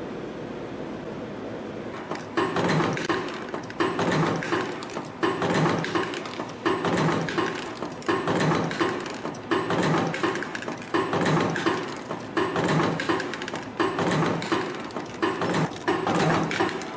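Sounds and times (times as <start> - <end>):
spring-forming machine running: 1.9 - 16.9
sharp machine clicks: 2.1 - 16.9.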